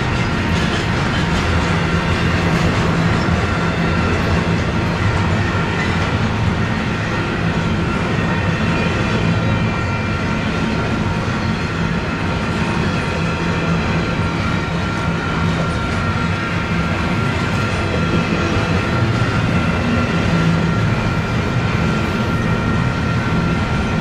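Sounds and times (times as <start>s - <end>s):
freight train wheels rumbling: 0.0s - 24.0s
wheels clickety-clack: 0.0s - 24.0s.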